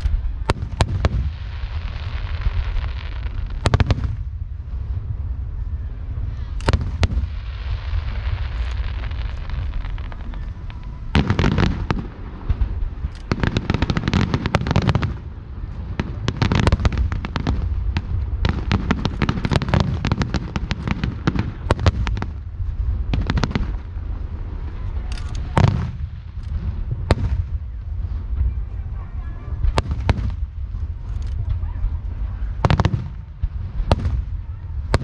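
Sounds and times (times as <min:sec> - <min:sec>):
fireworks bangs and crackles: 0:00.0 - 0:35.0
heavy low rumble: 0:00.0 - 0:35.0.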